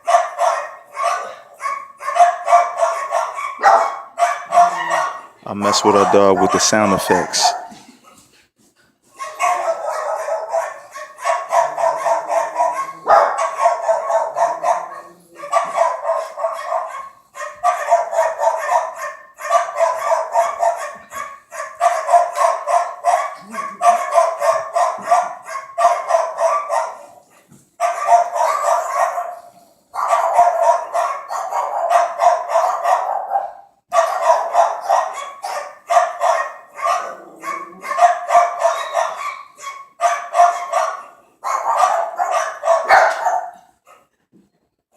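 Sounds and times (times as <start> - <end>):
recorded dog barking: 0.0 - 8.2, 9.1 - 44.2.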